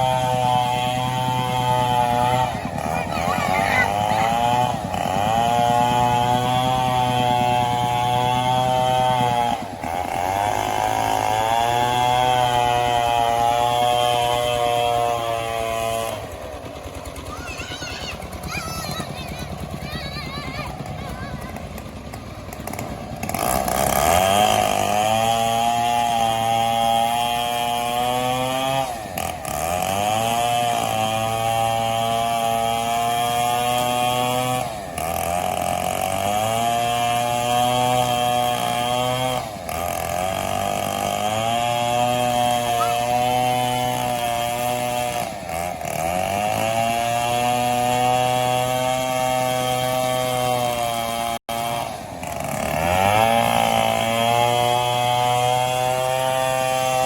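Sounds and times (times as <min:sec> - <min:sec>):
chainsaw cutting tree: 0:00.0 - 0:57.0.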